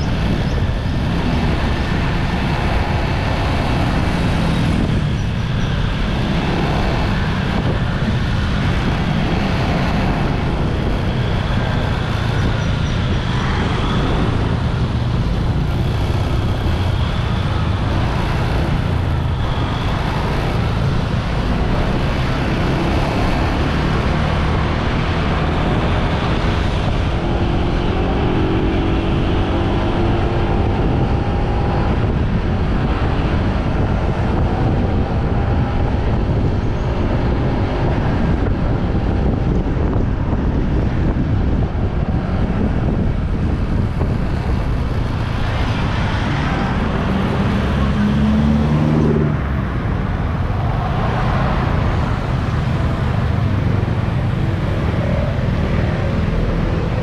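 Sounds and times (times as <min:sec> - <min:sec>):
motorbike wind and road noise: 0:00.0 - 0:57.0
traffic: 0:00.0 - 0:57.0.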